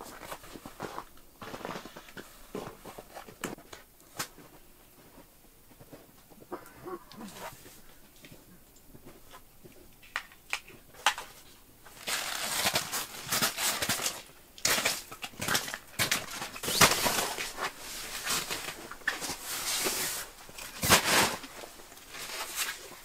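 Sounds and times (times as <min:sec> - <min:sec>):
fabric rustling and crinkling: 0:00.0 - 0:06.5, 0:10.8 - 0:23.0.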